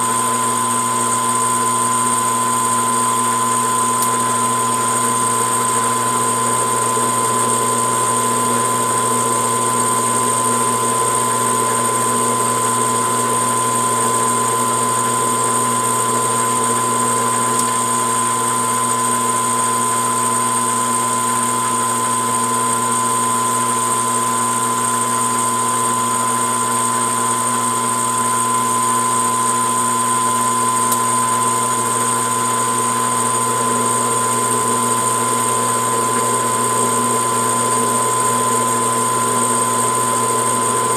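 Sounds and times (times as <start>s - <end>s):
metal lathe whining: 0.0s - 40.9s.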